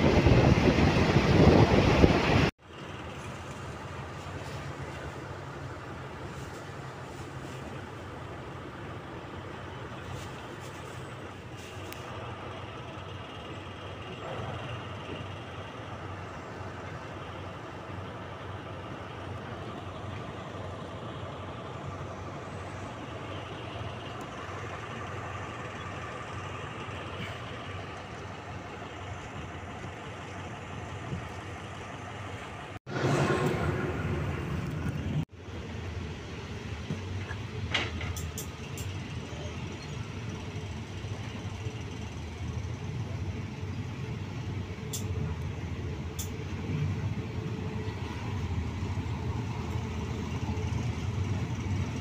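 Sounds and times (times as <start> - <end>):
diesel locomotive engine running: 0.0 - 52.0
rumble inside passenger carriage: 0.0 - 52.0.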